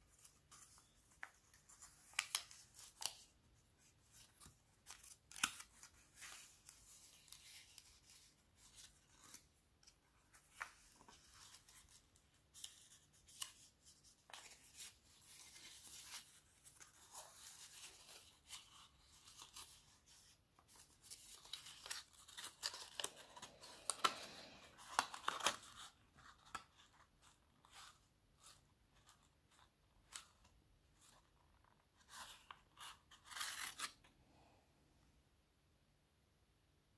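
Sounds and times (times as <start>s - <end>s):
paper folding and creasing: 0.0s - 34.1s.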